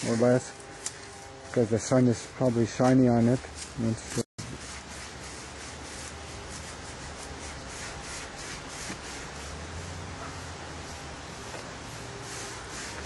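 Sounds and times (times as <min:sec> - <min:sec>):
paintbrush rubbing on concrete: 0:00.0 - 0:00.7, 0:01.5 - 0:13.0.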